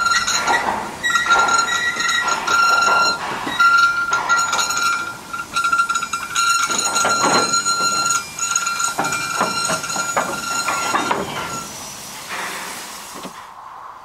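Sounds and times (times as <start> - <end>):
train wheels squealing: 0.0 - 12.8
clanks and knocks of wagons: 0.0 - 13.4.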